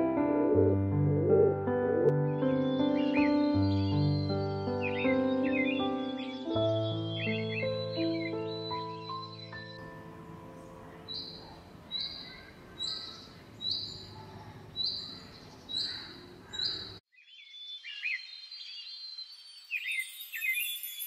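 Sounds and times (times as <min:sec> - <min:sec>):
bird twittering song: 0:01.3 - 0:09.9, 0:11.1 - 0:21.0.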